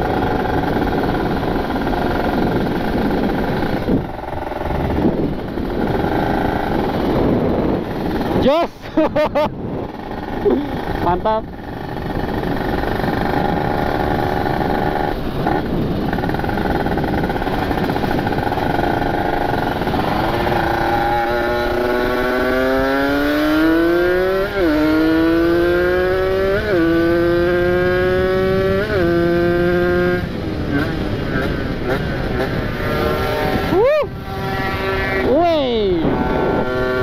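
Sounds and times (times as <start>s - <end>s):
motorcycle engine revving: 0.0s - 37.0s
wind noise: 0.0s - 37.0s.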